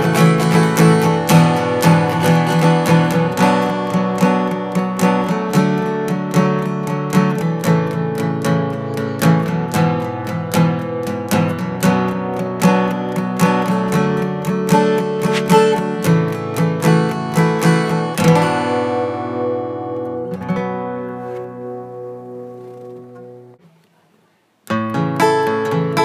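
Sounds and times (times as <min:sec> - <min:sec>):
strummed acoustic guitar: 0:00.0 - 0:23.8, 0:24.6 - 0:26.0.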